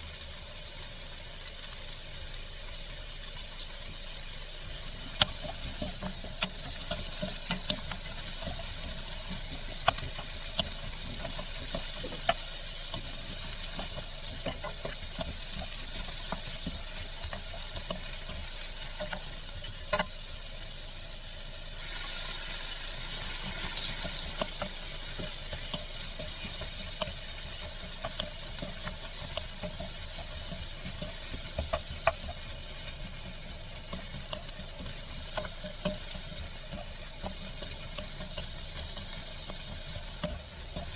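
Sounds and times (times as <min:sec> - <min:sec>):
vegetables sizzling in a frying pan: 0:00.0 - 0:40.9
spatula clicking against pan: 0:04.7 - 0:20.2, 0:23.1 - 0:40.9.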